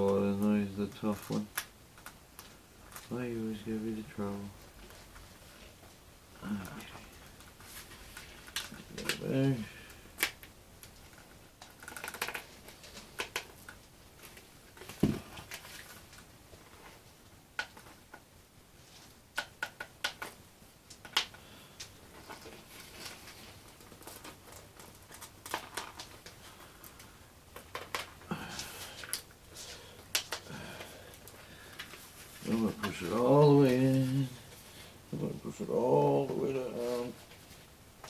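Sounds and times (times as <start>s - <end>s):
rustling: 0.0s - 38.0s.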